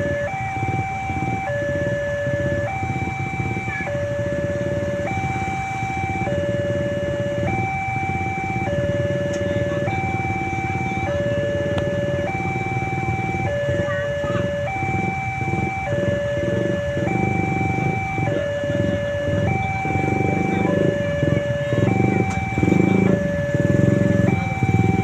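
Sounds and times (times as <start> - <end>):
two-tone warning siren: 0.0 - 25.0.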